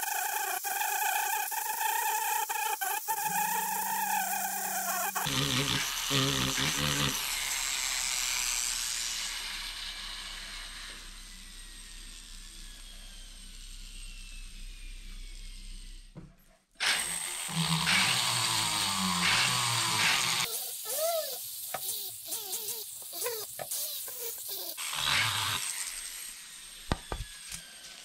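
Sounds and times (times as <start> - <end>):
sanding drum grinding wood: 0.0 - 14.7, 16.9 - 28.0
rotary tool whine: 0.0 - 28.0.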